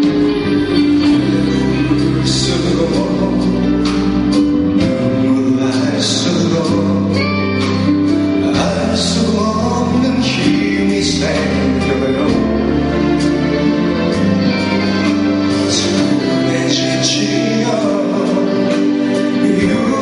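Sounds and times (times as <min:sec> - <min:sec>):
man singing into microphone: 0:00.0 - 0:13.2, 0:15.5 - 0:20.0
band accompaniment: 0:00.0 - 0:20.0.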